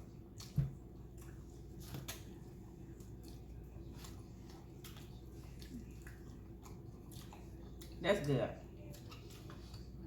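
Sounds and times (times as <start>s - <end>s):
low steady hum: 0.0s - 10.0s
mouth chewing and smacking: 0.0s - 10.0s.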